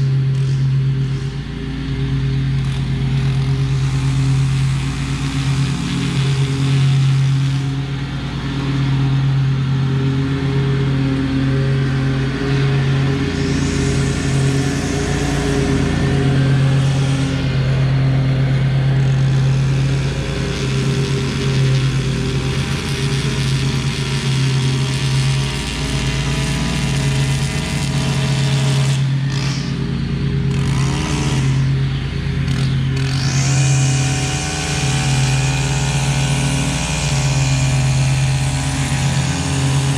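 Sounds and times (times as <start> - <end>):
engine revving: 0.0 - 39.9
mower engine hum: 0.0 - 39.9
string trimmer whine: 0.0 - 39.9.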